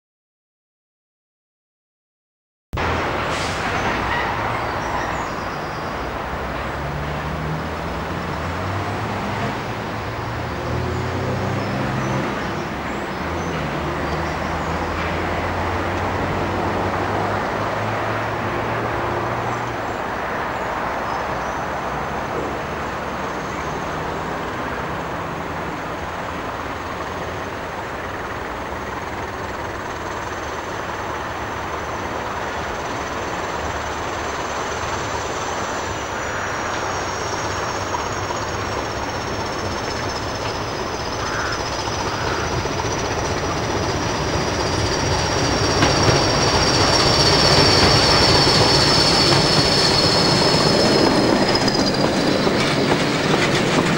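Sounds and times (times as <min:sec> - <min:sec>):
diesel locomotives running: 0:02.8 - 0:53.9.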